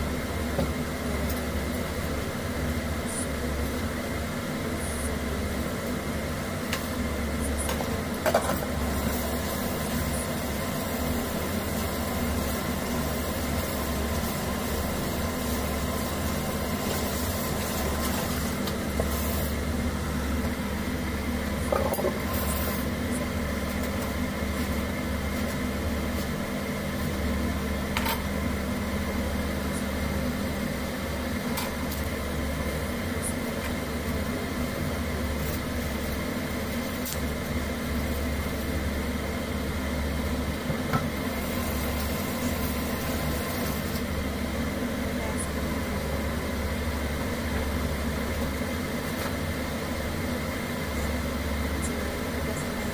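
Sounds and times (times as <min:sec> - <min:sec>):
appliance motor hum: 0:00.0 - 0:52.9.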